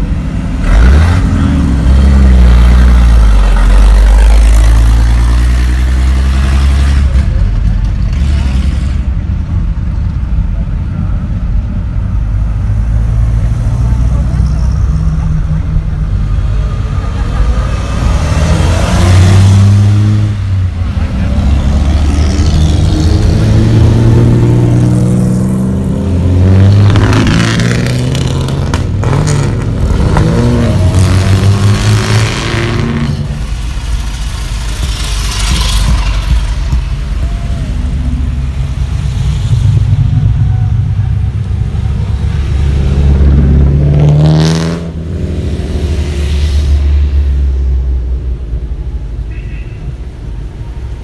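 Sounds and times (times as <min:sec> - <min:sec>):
cars driving past: 0:00.0 - 0:51.0.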